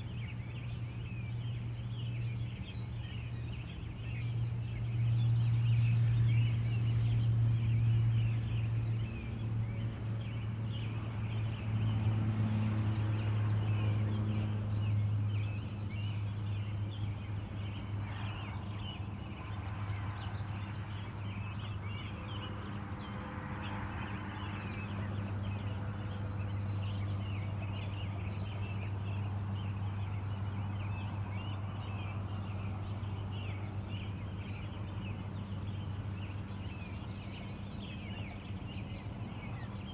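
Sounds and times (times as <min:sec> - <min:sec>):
steady low hum: 0:00.0 - 0:39.9
wild birds chirping and trilling: 0:00.0 - 0:39.9.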